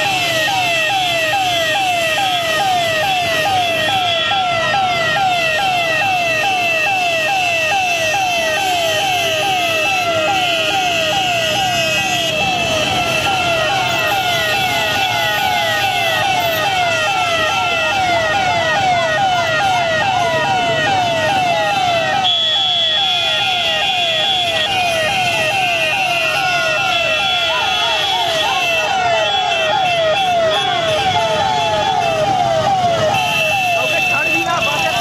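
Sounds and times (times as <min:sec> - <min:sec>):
electronic siren yelping: 0:00.0 - 0:35.0
road and engine noise: 0:00.0 - 0:35.0.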